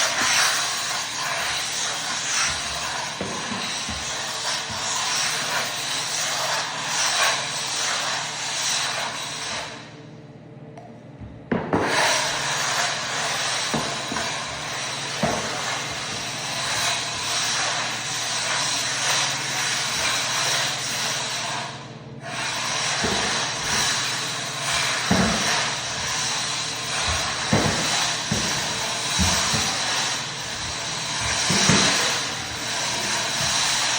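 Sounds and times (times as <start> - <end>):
floor buffer scrubbing wood: 0.0 - 9.9, 11.5 - 33.9.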